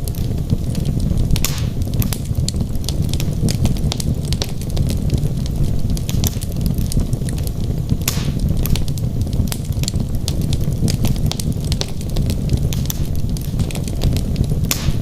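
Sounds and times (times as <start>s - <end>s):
burning wood hissing: 0.0s - 15.0s
fire crackling and popping: 0.0s - 15.0s
low rumble of flame: 0.0s - 15.0s.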